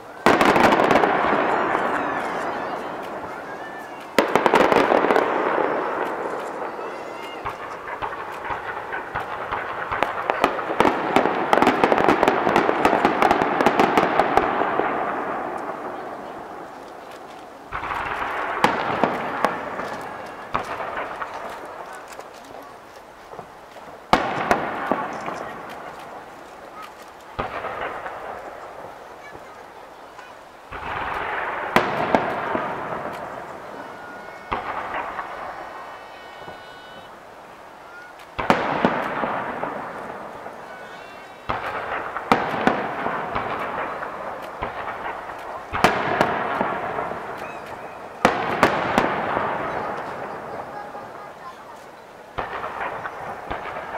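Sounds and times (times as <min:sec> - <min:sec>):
fireworks crackling pops: 0:00.0 - 0:53.9
fireworks rumbling: 0:00.0 - 0:53.9.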